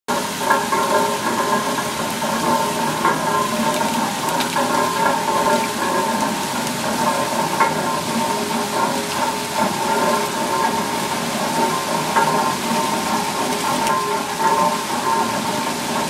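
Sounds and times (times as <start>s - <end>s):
high whine of waterwheel works: 0.1s - 16.0s
water splashing off waterwheel: 0.1s - 16.0s.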